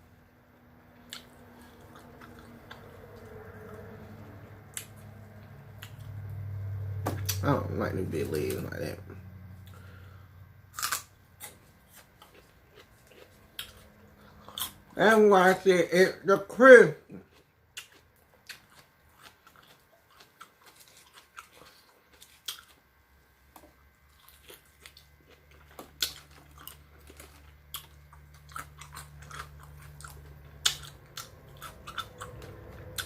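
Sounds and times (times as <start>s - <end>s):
faint low hum: 0.0s - 33.0s
chewing crispy chicken wings: 0.9s - 9.0s, 9.6s - 33.0s.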